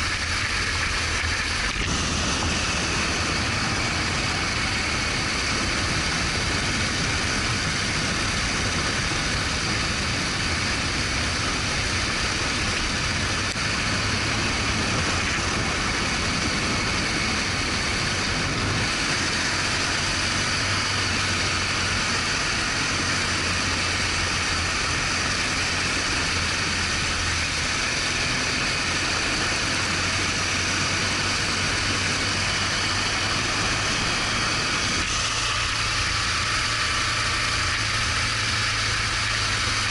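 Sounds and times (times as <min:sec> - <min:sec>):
motorcycle engine running: 0:00.0 - 0:39.9
wind and road noise hiss: 0:00.0 - 0:39.9.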